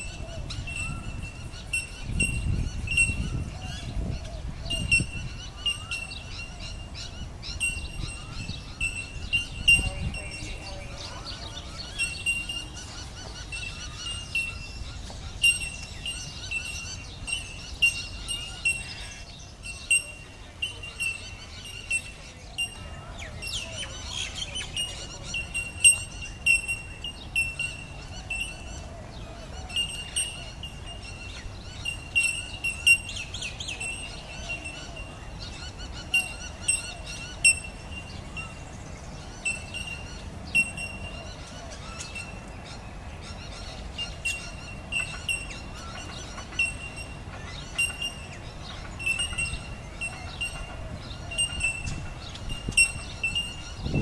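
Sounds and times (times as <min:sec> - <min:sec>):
low outdoor background: 0:00.0 - 0:54.0
small birds chirping: 0:00.0 - 0:54.0.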